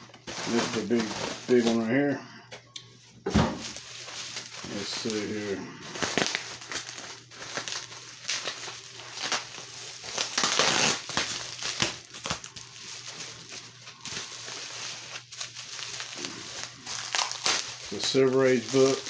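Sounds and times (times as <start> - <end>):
bubble wrap crinkling: 0.0 - 1.9, 3.6 - 19.0.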